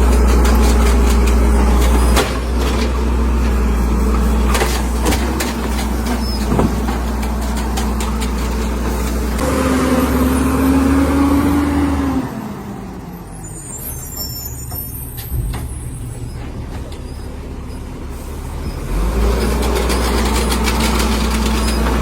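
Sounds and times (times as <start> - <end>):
garbage truck engine rumble: 0.0 - 22.0.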